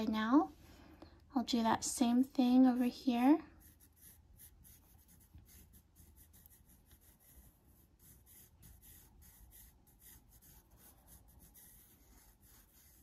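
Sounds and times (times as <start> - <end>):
pencil scratching on paper: 2.5 - 13.0.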